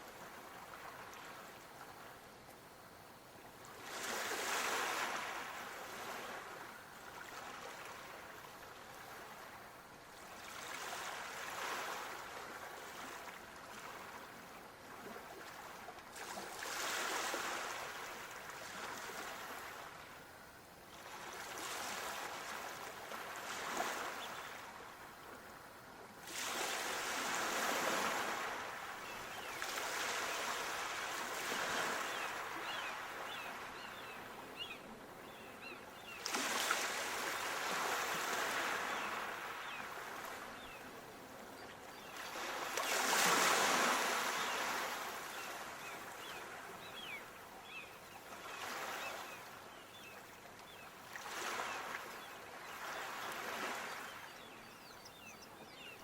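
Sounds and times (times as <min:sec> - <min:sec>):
waves breaking on shore: 0:03.6 - 0:54.5.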